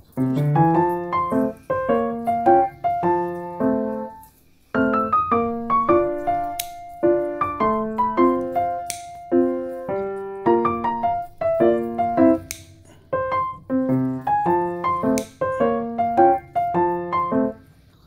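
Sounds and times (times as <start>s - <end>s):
light piano tune: 0.0s - 18.0s.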